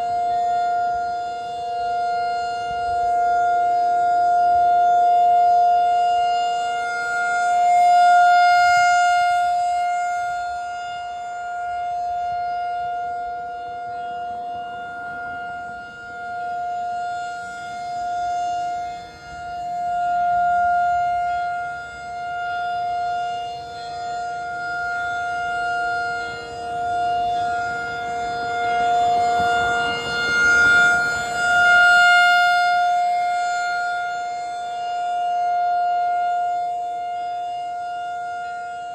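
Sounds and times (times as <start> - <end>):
rotating siren alert tone: 0.0 - 38.9.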